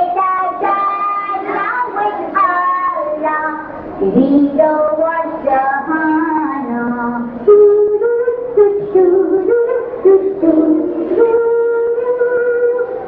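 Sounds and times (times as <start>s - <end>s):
children's song melody: 0.0s - 13.0s.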